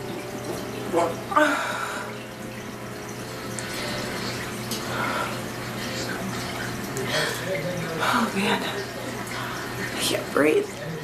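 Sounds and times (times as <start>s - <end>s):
water running from tap: 0.0s - 11.0s.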